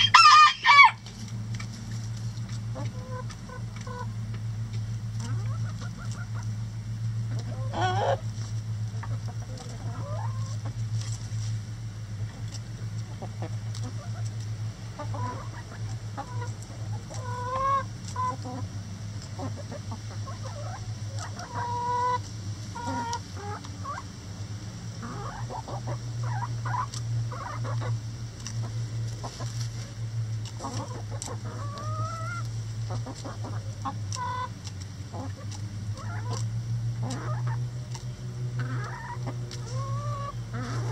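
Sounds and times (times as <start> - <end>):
chickens clucking and calling: 0.0 - 40.9
steady low hum: 0.0 - 40.9.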